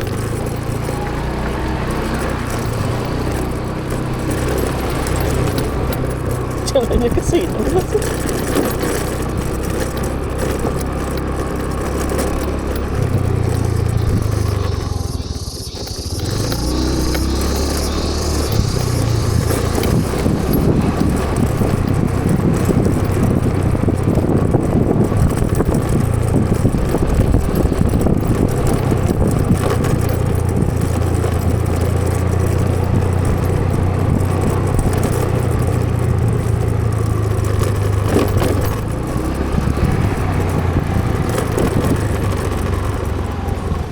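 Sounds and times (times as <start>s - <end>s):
road and wind noise: 0.0s - 43.9s
vehicle engine humming: 0.0s - 43.9s.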